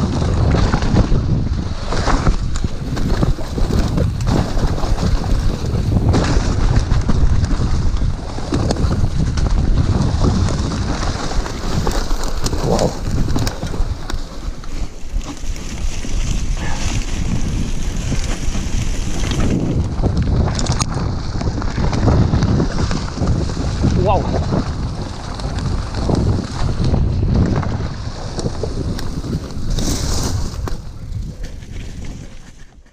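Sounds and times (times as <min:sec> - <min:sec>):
bike tyre noise: 0:00.0 - 0:32.9
wind buffeting microphone: 0:00.0 - 0:32.9.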